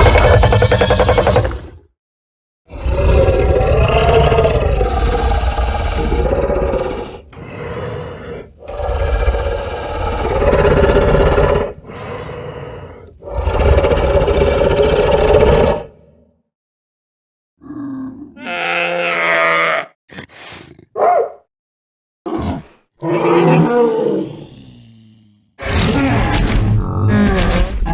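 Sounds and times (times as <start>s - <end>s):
cartoon dinosaur roars: 0.0s - 1.9s, 2.7s - 16.1s, 17.6s - 20.0s, 22.3s - 27.9s.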